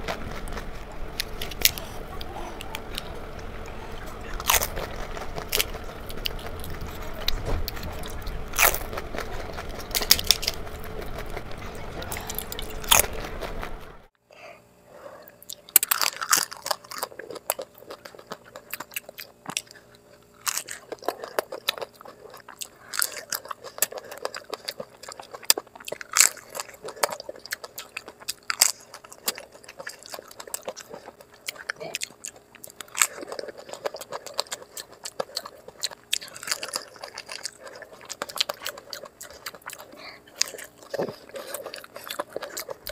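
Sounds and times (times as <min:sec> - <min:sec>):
crunching and chewing crisp snacks: 0:00.0 - 0:14.1, 0:14.9 - 0:42.9.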